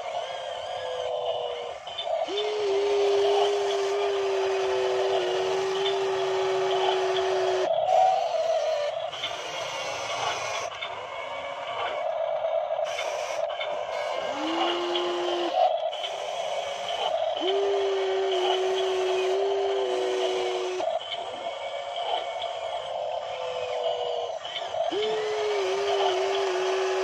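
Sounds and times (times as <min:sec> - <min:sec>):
toy excavator motor whirring: 0:00.0 - 0:12.2, 0:12.8 - 0:27.0
steady electric whine: 0:00.0 - 0:27.0.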